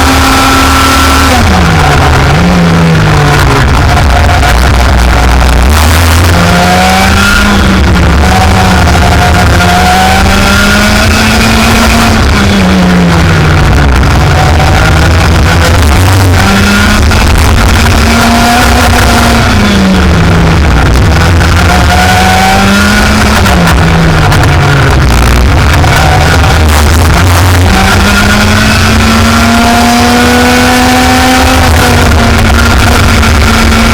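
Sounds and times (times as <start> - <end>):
kart engine running hard: 0.0 - 33.9.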